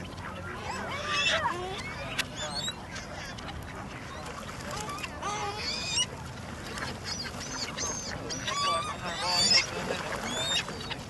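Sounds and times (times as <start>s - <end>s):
gulls squawking: 0.0s - 11.0s.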